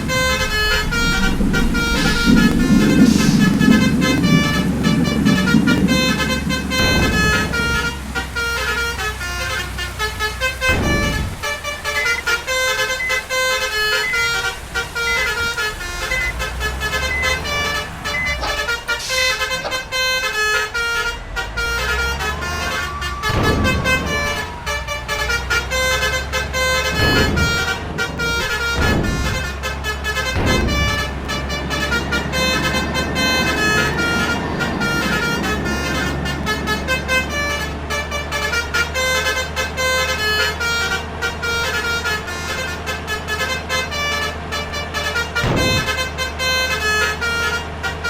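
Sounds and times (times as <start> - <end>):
bus engine rumbling: 0.0 - 48.0
musical air horn playing tune: 0.0 - 48.0.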